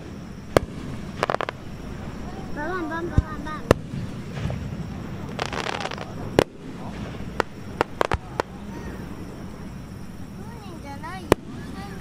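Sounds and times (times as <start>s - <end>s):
firework bangs: 0.0s - 10.0s, 11.2s - 12.0s
firework crackling hiss: 0.0s - 12.0s.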